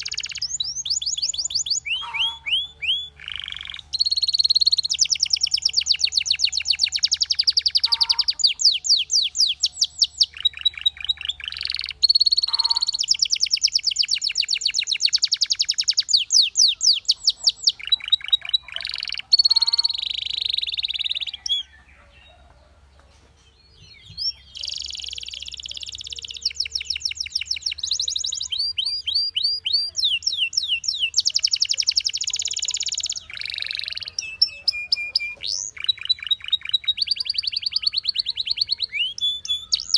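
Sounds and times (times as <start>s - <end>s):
canary singing trills: 0.0s - 22.8s, 23.4s - 39.9s.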